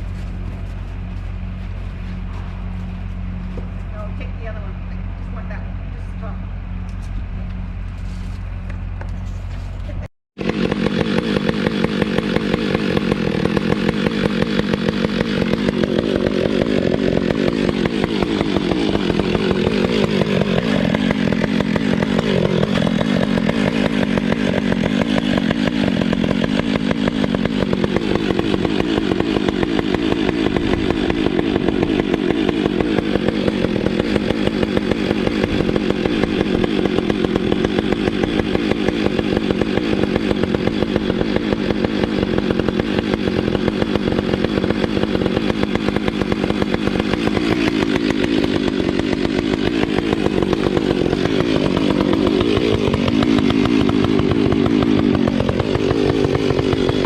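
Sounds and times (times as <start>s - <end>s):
chainsaw engine running: 0.0s - 57.0s.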